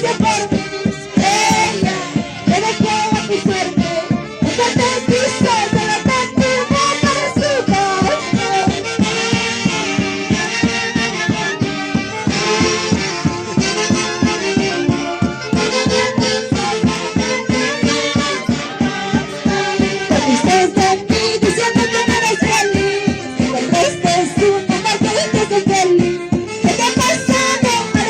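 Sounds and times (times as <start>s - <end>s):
folk orchestra playing lively tune: 0.0s - 28.0s.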